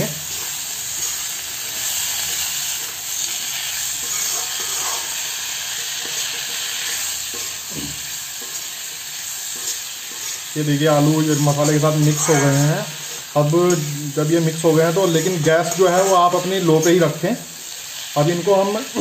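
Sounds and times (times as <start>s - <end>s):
potatoes sizzling in oil: 0.0s - 19.0s
spoon scraping a pan: 0.2s - 17.8s.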